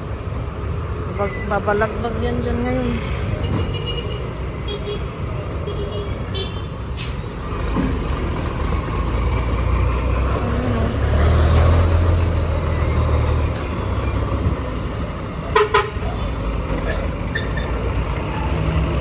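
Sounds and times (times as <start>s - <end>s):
truck diesel engine rumble: 0.0s - 19.0s.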